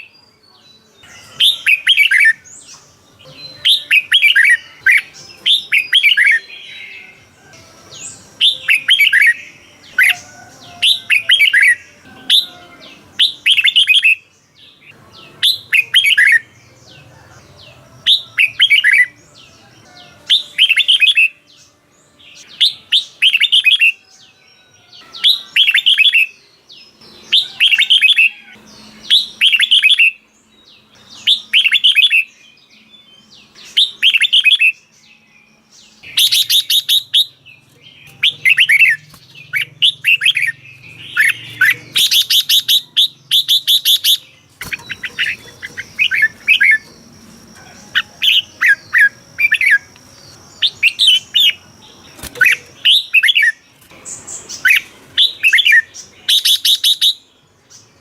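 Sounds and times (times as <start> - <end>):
bird whistled song: 0.0 - 58.0
high bird twittering: 1.0 - 7.3, 7.9 - 19.2, 25.0 - 26.4, 27.0 - 32.5, 33.2 - 34.9, 35.9 - 57.3.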